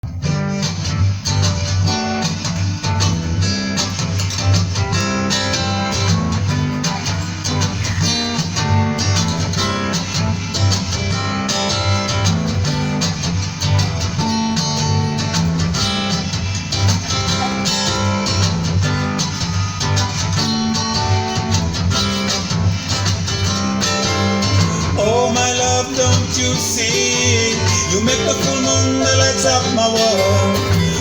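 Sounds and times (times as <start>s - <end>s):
acoustic guitar playing: 0.0s - 31.0s
steady bass line: 0.0s - 31.0s.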